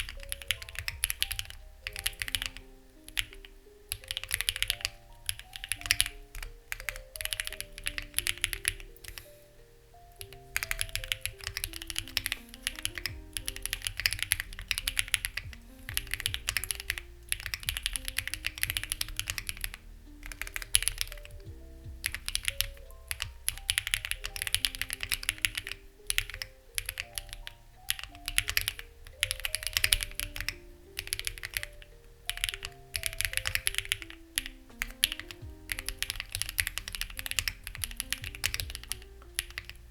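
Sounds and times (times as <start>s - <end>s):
mechanical keyboard typing: 0.0s - 9.3s, 10.1s - 39.9s
soft melodic background music: 0.0s - 39.9s.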